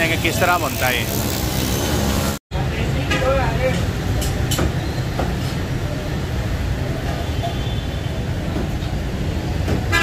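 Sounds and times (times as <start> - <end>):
busy street traffic rumble: 0.0 - 10.0.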